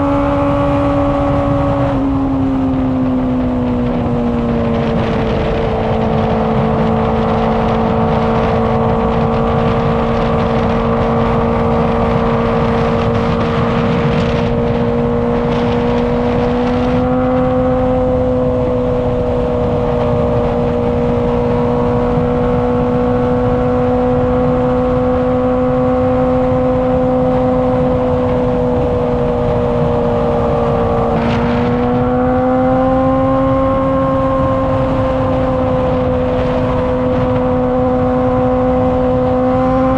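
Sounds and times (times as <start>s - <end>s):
motorcycle engine high-revving: 0.0s - 39.9s
wind rush: 0.0s - 39.9s.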